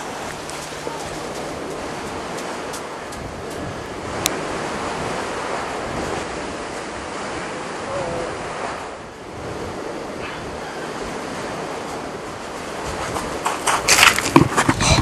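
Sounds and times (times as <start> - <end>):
surf washing onto beach: 0.0 - 15.0
wind on microphone: 0.0 - 15.0.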